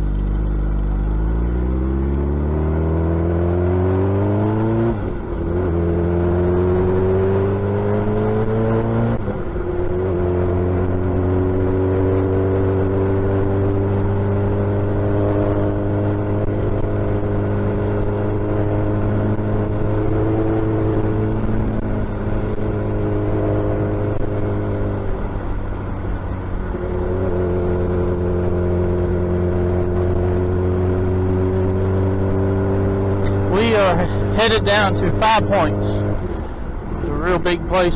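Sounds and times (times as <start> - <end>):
motorcycle engine with loud exhaust: 0.0 - 37.9.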